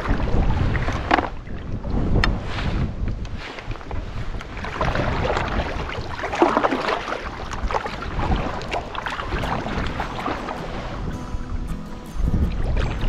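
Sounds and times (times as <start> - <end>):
paddle strokes splashing: 0.0 - 11.6
water sloshing against hull: 0.0 - 13.0
wind buffeting microphone: 0.0 - 13.0.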